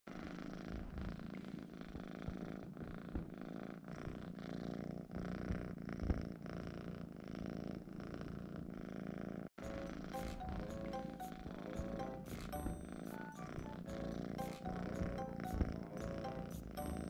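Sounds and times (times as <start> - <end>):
kitten purring: 0.1 - 17.0.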